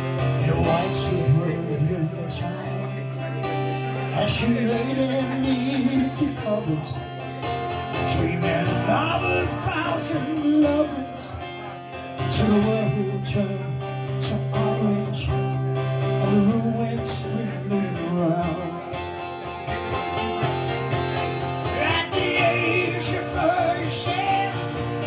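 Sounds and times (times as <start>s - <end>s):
strummed acoustic guitar: 0.0s - 25.0s
man singing: 0.1s - 19.3s, 21.6s - 25.0s.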